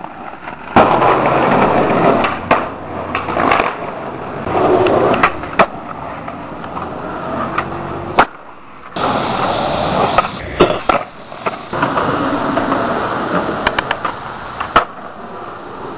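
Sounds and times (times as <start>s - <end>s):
skateboard clacks: 0.0s - 15.9s
skateboard wheels rolling on concrete: 0.0s - 15.9s.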